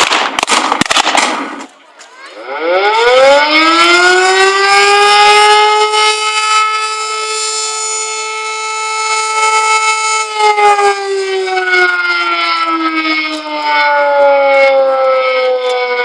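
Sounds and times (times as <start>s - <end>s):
air-raid siren winding down: 2.3s - 16.0s
higher siren tone: 2.3s - 16.0s.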